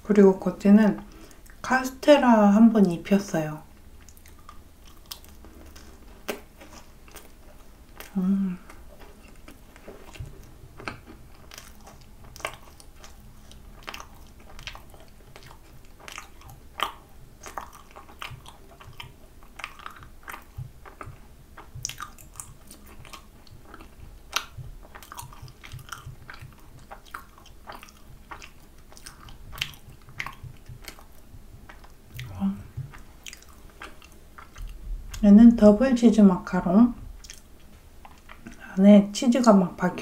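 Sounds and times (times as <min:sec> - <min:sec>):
chewing crunches: 0:03.8 - 0:35.2, 0:37.2 - 0:38.7.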